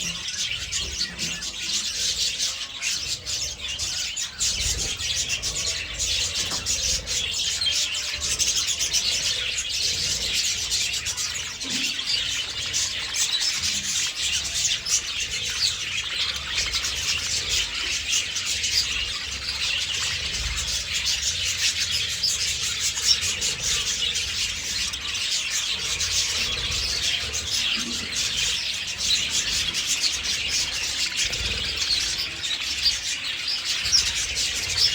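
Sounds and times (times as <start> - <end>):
budgies chattering and chirping: 0.0 - 34.9.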